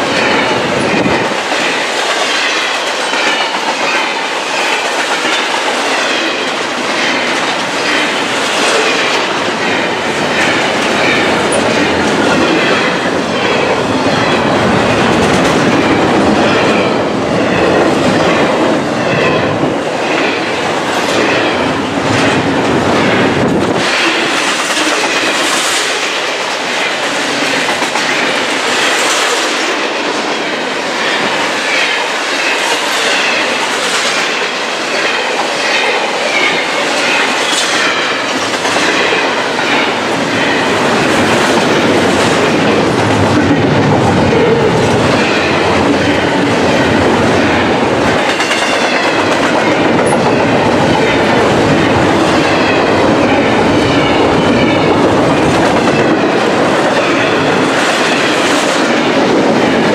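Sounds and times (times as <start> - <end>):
deep train rumble: 0.0 - 59.9.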